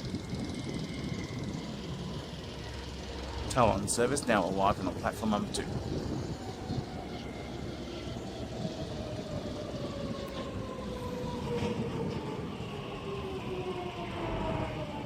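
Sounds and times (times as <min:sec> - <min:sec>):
train motors whining: 0:00.0 - 0:15.0
wheels rumbling on rail: 0:00.0 - 0:15.0.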